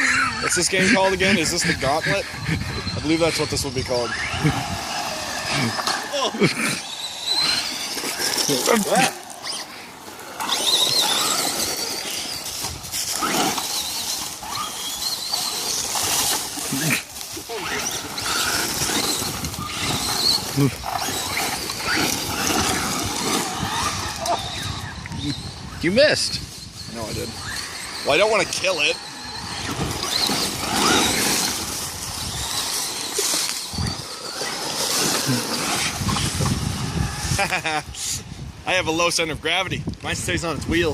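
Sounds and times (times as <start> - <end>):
electric motors whining: 0.0 - 38.0
rc trucks driving over rough ground: 0.0 - 40.9.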